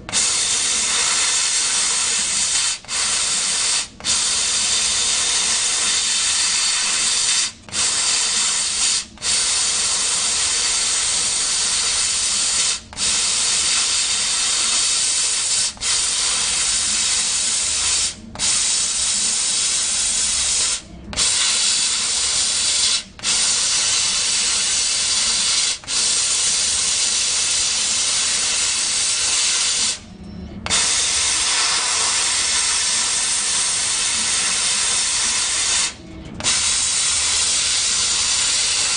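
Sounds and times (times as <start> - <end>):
laser cutter air jet hissing: 0.0 - 38.9.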